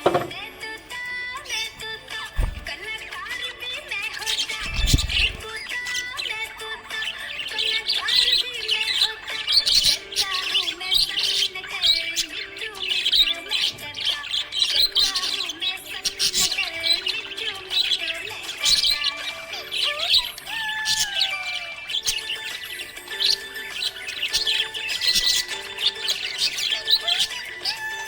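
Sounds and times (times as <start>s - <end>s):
budgerigar chirping and chattering: 1.4s - 28.0s.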